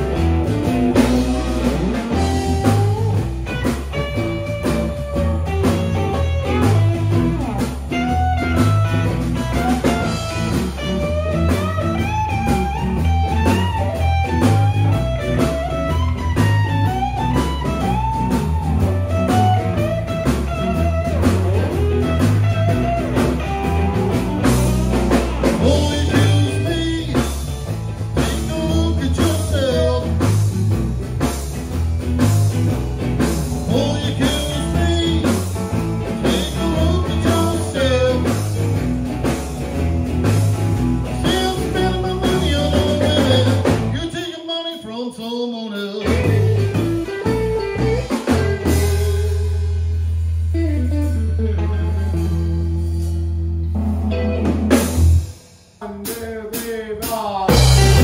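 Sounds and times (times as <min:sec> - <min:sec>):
electric guitars: 0:00.0 - 0:56.1, 0:57.0 - 0:58.0
bass guitar: 0:00.0 - 0:58.0
blues band playing: 0:00.0 - 0:58.0.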